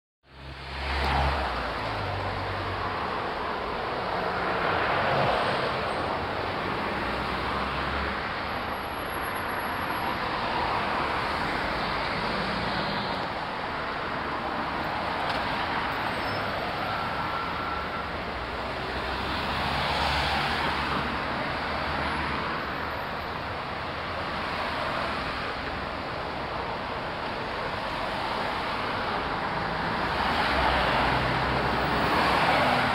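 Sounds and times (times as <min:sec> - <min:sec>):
vehicles passing: 0:00.3 - 0:32.9.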